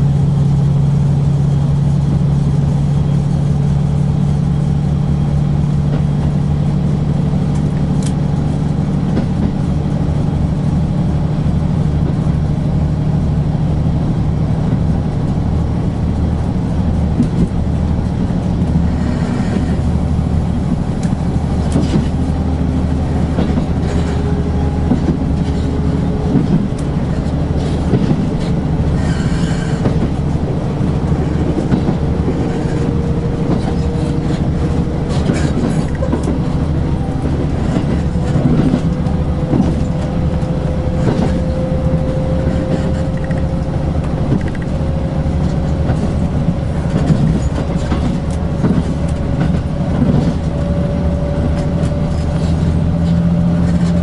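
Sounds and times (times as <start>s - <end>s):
train running hum: 0.0s - 54.0s
wheels clicking on rails: 1.9s - 54.0s.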